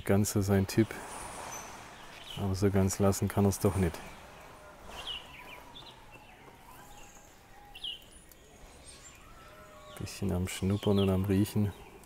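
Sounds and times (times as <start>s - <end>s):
faint bird chirps: 1.1s - 12.0s.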